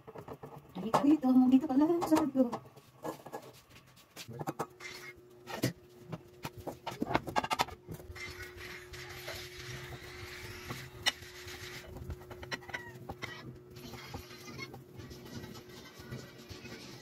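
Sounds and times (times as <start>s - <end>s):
faint hum: 0.0s - 17.0s
dough rubbing on board: 2.7s - 17.0s.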